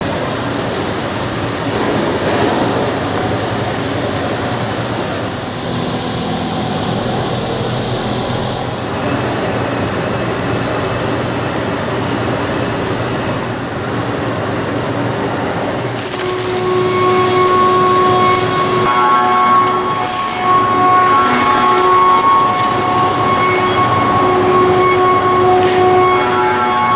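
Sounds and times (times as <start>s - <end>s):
cnc machine milling metal: 0.0s - 26.9s
multi-pitched machine whine: 0.1s - 26.9s.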